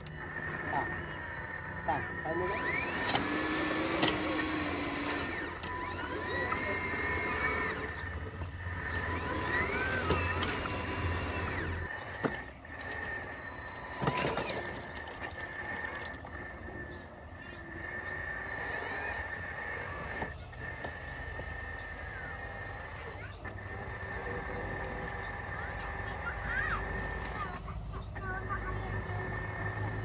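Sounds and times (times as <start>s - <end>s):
small electric motors whining: 0.0s - 30.0s.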